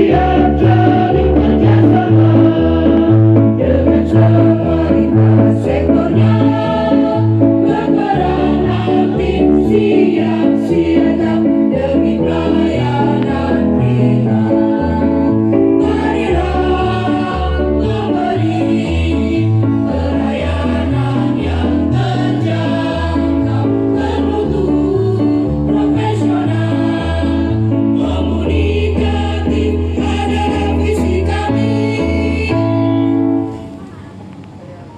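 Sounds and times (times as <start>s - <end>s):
bass line: 0.0s - 33.6s
choir singing: 0.0s - 33.7s
instrumental accompaniment: 0.0s - 33.9s.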